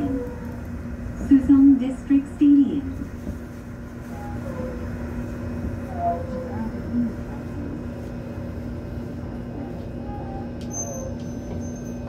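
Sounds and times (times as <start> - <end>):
monorail car rumbling: 0.0 - 12.0.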